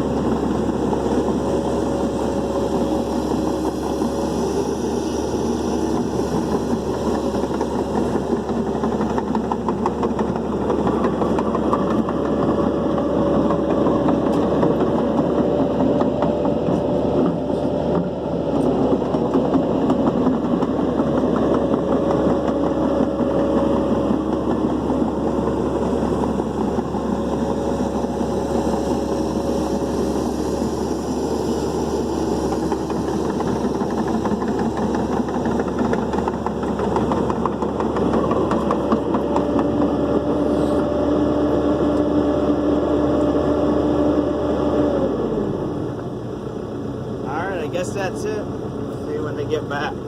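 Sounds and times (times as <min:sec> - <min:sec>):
diesel truck engine droning: 0:00.0 - 0:50.0.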